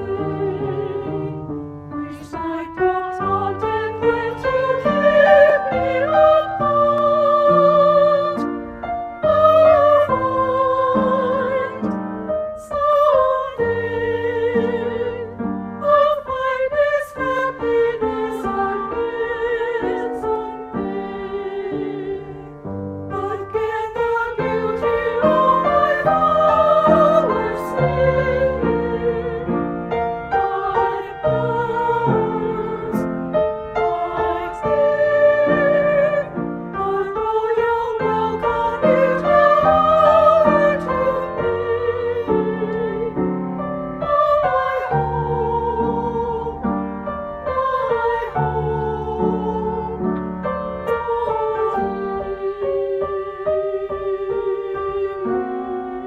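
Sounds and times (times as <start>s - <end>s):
female choir singing: 0.0s - 56.0s
piano: 0.0s - 56.0s.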